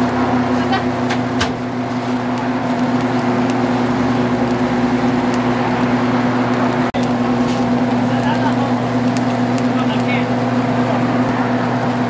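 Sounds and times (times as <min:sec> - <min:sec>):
boiling broth hissing: 0:00.0 - 0:12.0
cooker electrical hum: 0:00.0 - 0:12.0.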